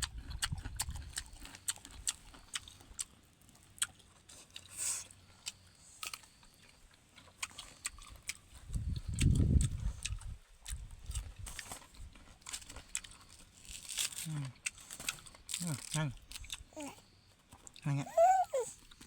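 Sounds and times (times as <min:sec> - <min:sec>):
animal chewing crunchy food: 0:00.0 - 0:19.0.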